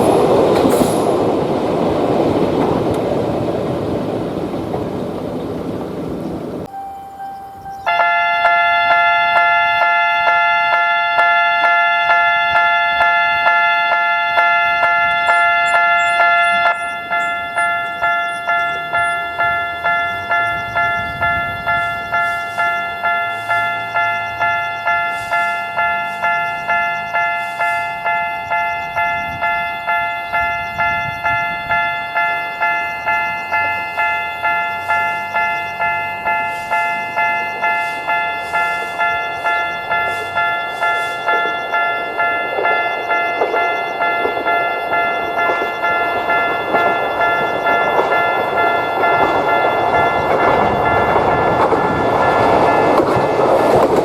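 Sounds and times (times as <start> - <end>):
level crossing warning bell: 0.0 - 54.0.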